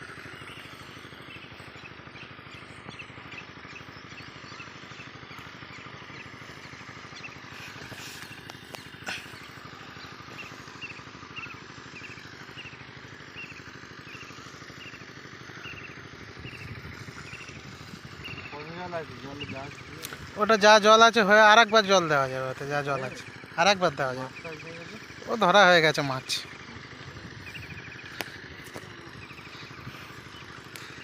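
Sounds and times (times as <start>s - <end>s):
bird chirping: 0.0s - 25.4s, 27.4s - 31.0s
diesel water pump engine running: 0.0s - 31.0s.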